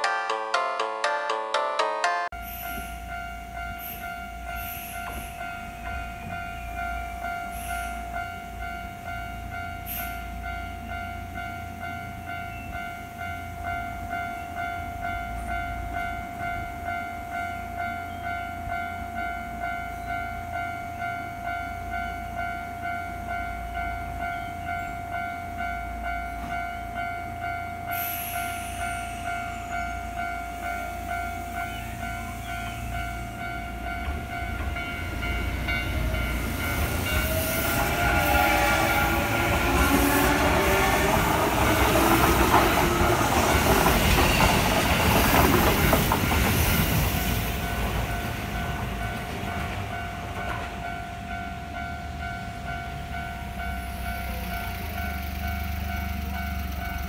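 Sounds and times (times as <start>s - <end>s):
railway crossing alarm dinging: 0.0s - 57.0s
train rumble and wheel clatter: 2.4s - 57.0s.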